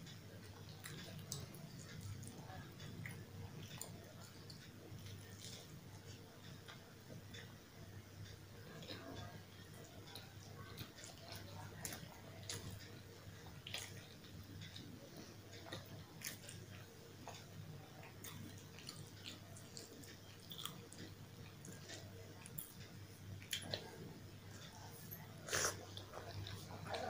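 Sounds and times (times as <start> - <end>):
chewing and wet mouth sounds: 0.1 - 7.6, 8.2 - 27.0.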